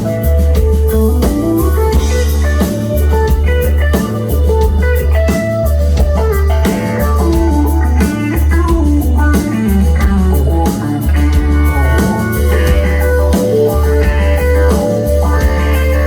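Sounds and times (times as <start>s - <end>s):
drums: 0.0s - 16.0s
guitar melody: 0.0s - 16.0s
heavy pulsing bass: 0.0s - 16.0s.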